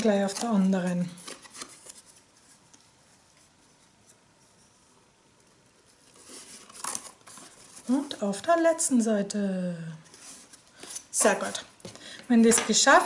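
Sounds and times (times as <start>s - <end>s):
soft paper rustles: 0.0s - 8.9s, 10.0s - 12.6s.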